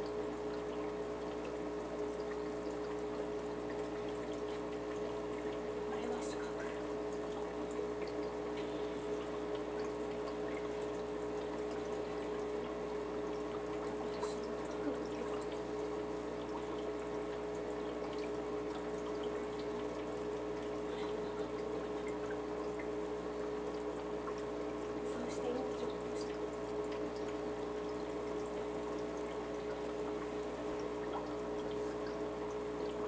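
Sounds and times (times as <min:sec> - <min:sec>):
aquarium filter hum: 0:00.0 - 0:33.0
water trickling and splashing: 0:00.0 - 0:33.0.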